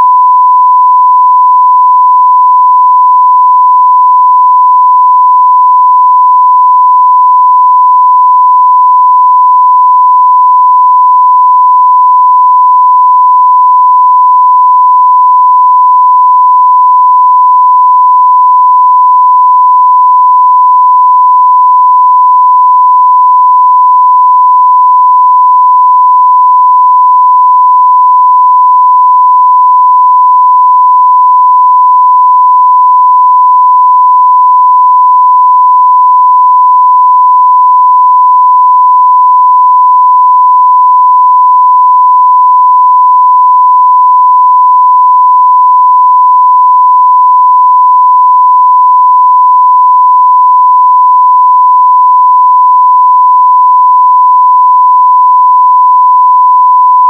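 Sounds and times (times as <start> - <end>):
sine-wave test tone: 0.0 - 57.0.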